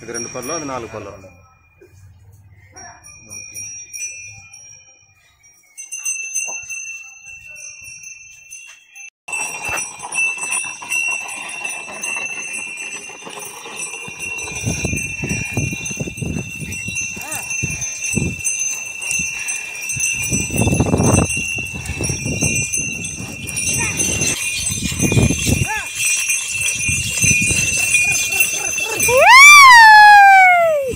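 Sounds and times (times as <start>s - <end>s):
bells jingling: 0.0s - 30.9s.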